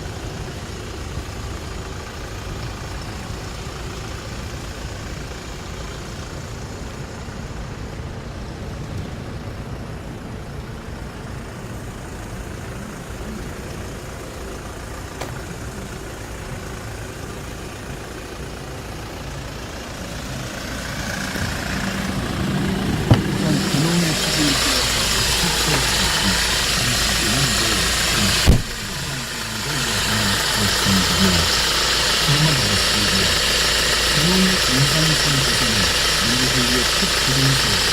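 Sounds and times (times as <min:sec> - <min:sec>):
light truck idling: 0:00.0 - 0:37.9.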